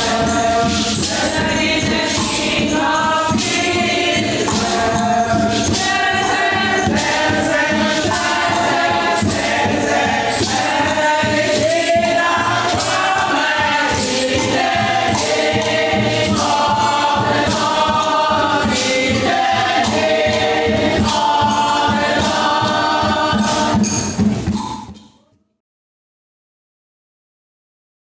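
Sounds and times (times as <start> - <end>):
choir singing with accompaniment: 0.0 - 25.0.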